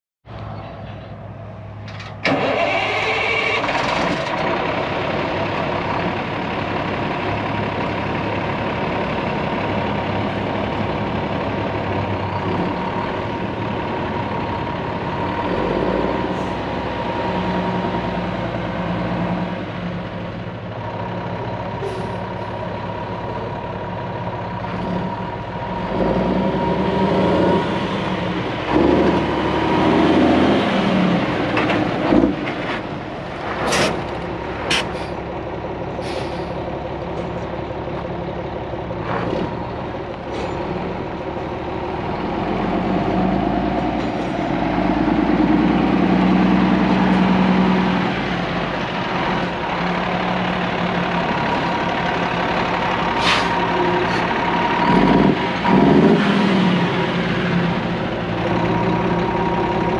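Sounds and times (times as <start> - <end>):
truck diesel engine starting and running: 0.3 - 59.9.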